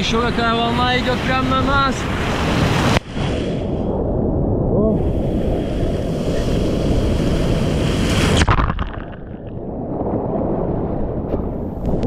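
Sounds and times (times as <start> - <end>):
sea surf churning: 0.0 - 12.0
wind on microphone: 0.0 - 12.0.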